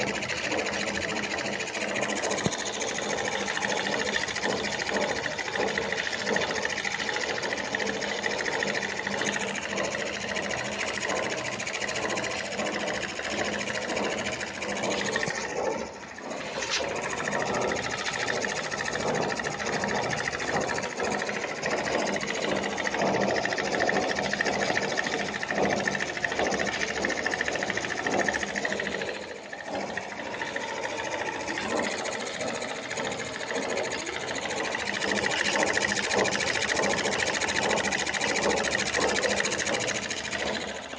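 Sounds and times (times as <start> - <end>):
model steam engine clatter: 0.0 - 40.9.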